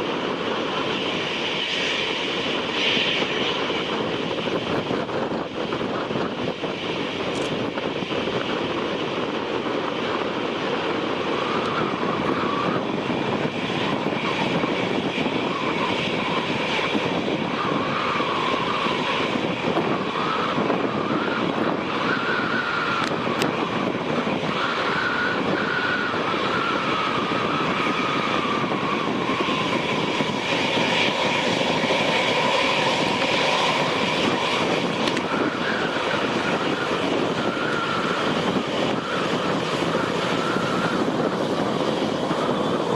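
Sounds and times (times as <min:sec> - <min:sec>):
jet engines rumbling with whine: 0:00.0 - 0:42.9.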